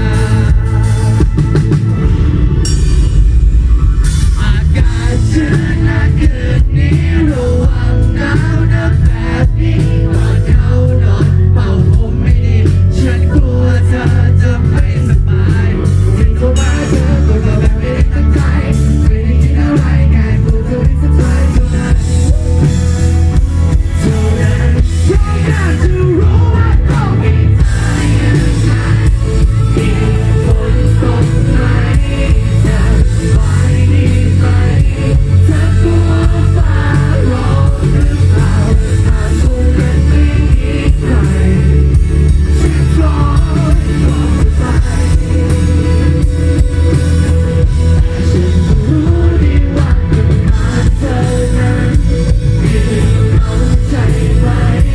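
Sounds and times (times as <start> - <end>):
person singing: 0.0 - 1.5, 4.1 - 54.9
bass: 0.0 - 54.9
drum kit: 0.0 - 54.9
guitar: 0.0 - 54.9.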